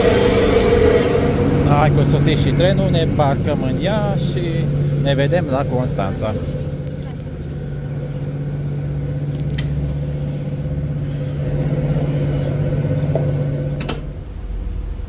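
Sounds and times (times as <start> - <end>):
train engine humming: 0.0 - 15.0.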